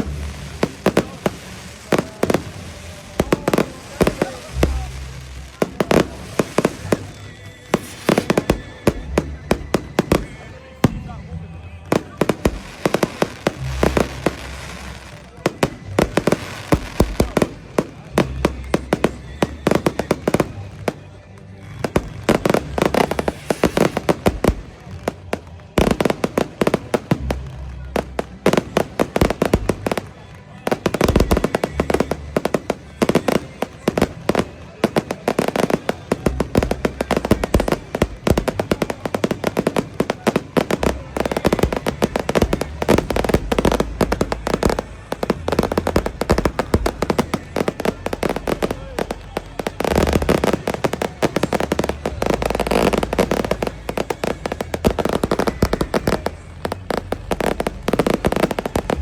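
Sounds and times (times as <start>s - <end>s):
fireworks bangs and crackles: 0.0s - 59.0s
music: 0.0s - 59.0s.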